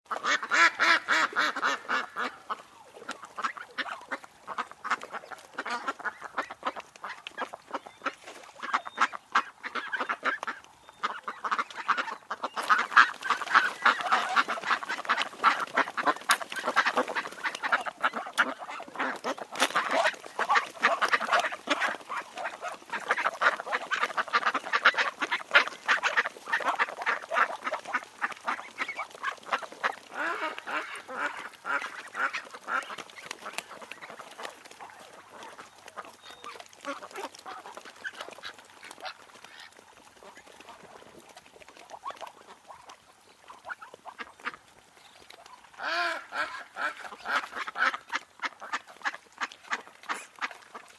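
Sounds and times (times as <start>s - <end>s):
ducks quacking: 0.1s - 50.9s.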